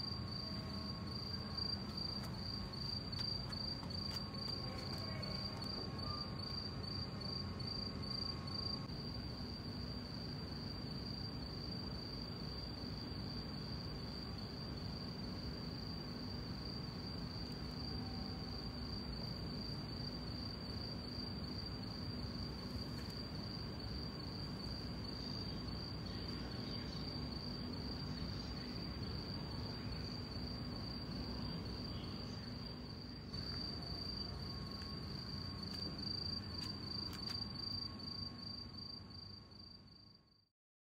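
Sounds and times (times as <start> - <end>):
cricket trilling: 0.0 - 40.2
low outdoor background noise: 0.0 - 40.5.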